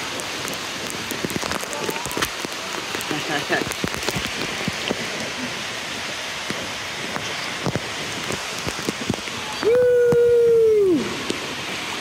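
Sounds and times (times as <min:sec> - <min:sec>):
small drips and splashes: 0:00.0 - 0:12.0
water falling and splashing: 0:00.0 - 0:12.0.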